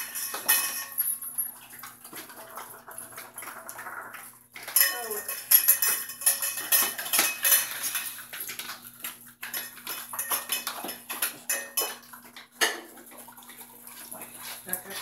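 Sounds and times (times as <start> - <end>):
dog bowls clinking on tile: 0.0 - 13.3.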